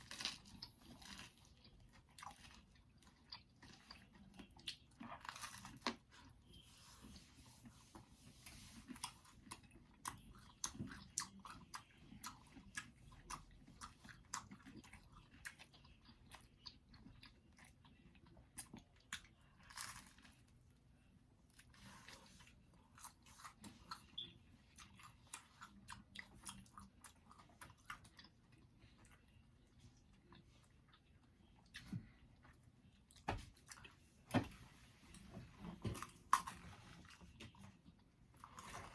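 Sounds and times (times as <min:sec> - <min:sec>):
chewing crunchy pizza: 0:00.0 - 0:34.3, 0:35.0 - 0:38.9.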